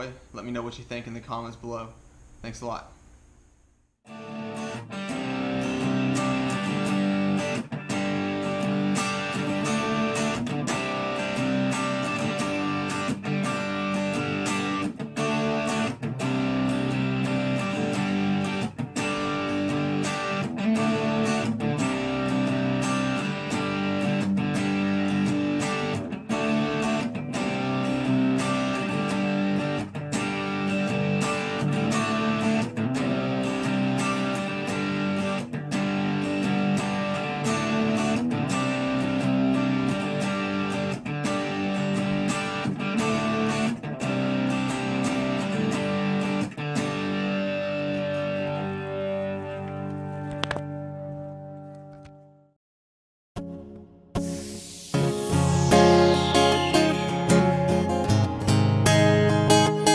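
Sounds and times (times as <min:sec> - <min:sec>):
guitar background music: 0:04.1 - 0:52.5, 0:53.4 - 0:59.9.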